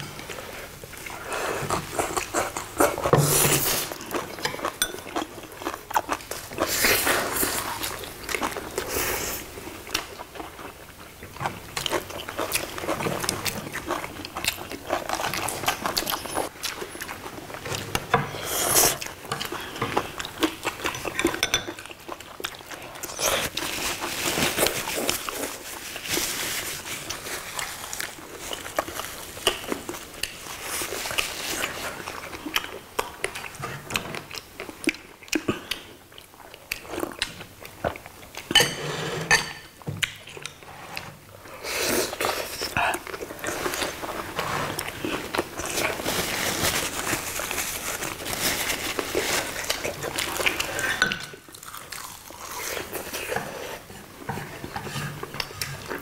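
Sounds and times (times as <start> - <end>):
chewing: 0.2 - 38.7, 40.0 - 56.0.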